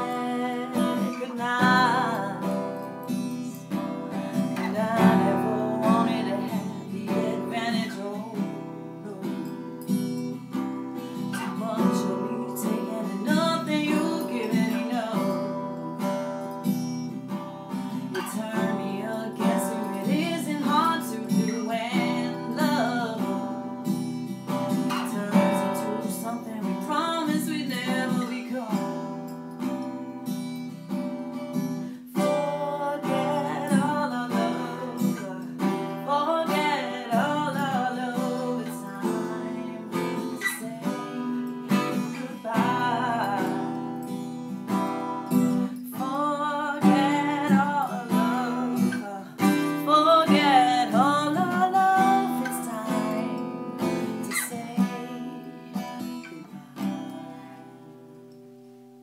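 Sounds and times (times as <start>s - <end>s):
woman singing: 0.0s - 30.0s, 31.6s - 57.9s
acoustic guitar strumming: 0.0s - 59.0s.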